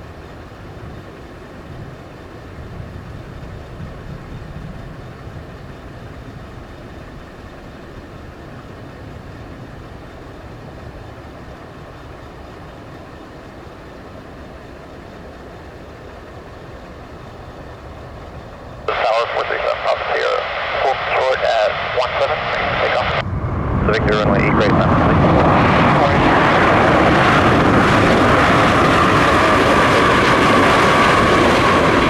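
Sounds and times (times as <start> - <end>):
distant jet engine rumble: 0.0 - 32.0.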